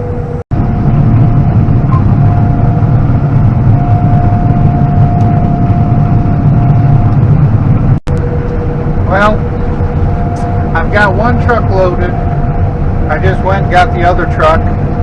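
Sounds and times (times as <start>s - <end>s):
diesel engine droning: 0.0s - 15.0s
thin steady whine: 0.0s - 15.0s.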